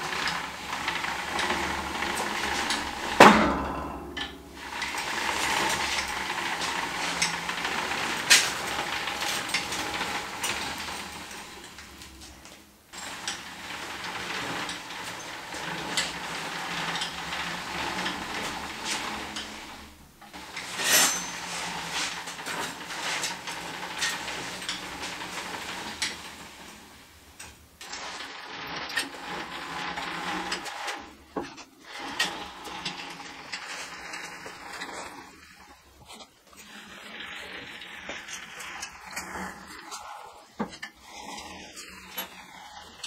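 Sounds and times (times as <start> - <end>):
steel carriage rattling on rails: 0.0 - 43.0.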